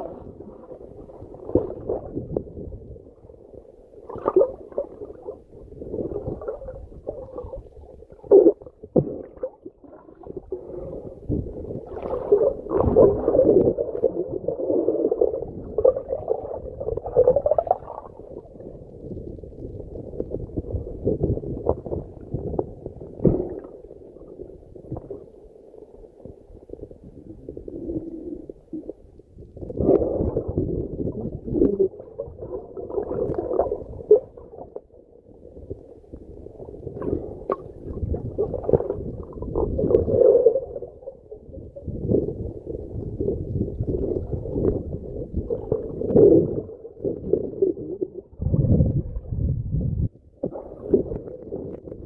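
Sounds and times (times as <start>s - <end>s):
underwater rumbling and gurgling: 0.0s - 52.0s.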